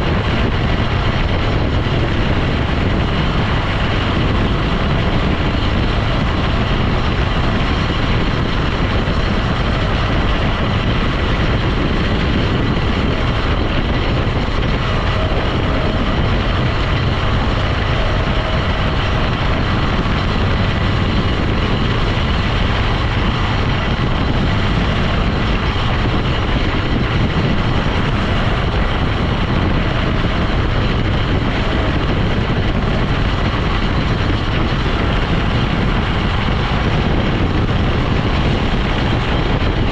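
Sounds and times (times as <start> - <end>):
road noise: 0.0 - 39.9
vehicle engine: 0.0 - 39.9
wind noise: 0.0 - 39.9.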